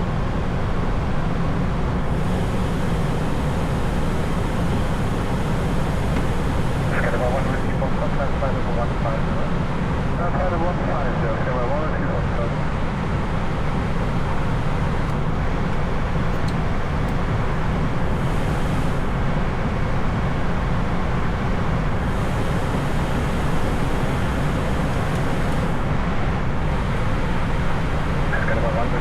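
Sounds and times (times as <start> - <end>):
airliner cockpit engine rumble: 0.0 - 29.0.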